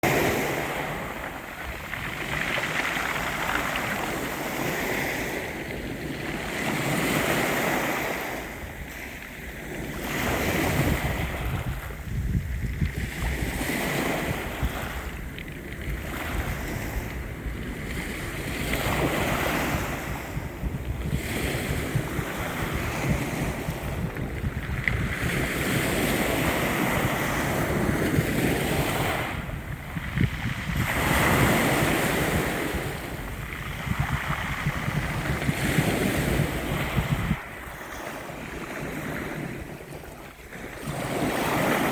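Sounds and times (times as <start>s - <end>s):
sea waves washing in: 0.0s - 41.9s.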